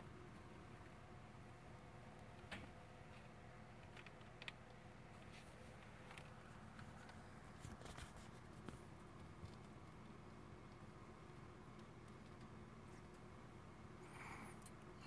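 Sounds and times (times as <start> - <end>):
kittens pawing and scratching: 0.2 - 13.5.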